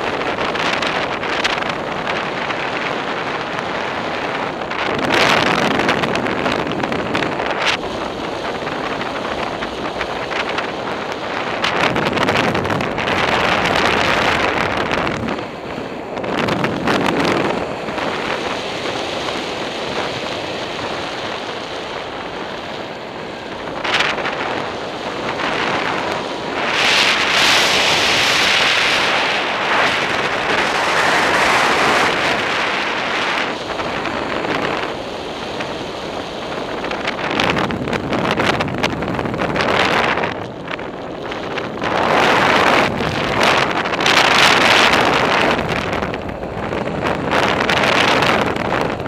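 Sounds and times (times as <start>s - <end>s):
wind rushing over microphone: 0.0s - 49.0s.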